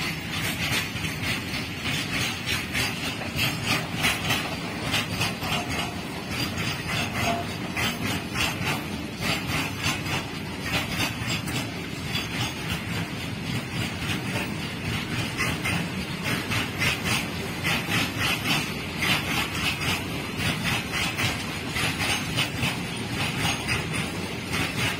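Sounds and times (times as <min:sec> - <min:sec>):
train wheels clickety-clack on rail: 0:00.0 - 0:24.9.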